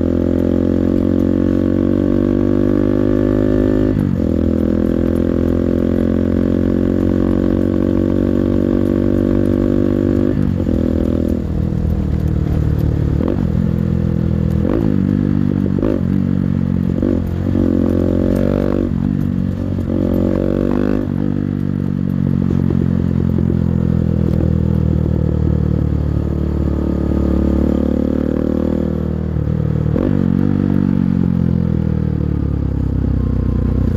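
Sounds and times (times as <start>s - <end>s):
engine revving: 0.0s - 31.4s.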